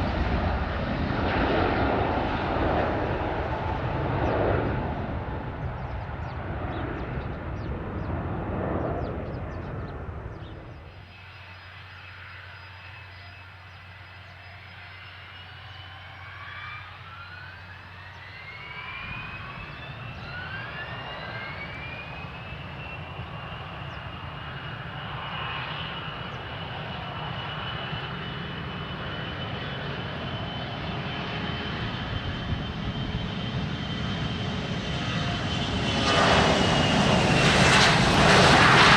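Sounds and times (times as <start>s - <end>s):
jet noise: 0.0s - 38.9s.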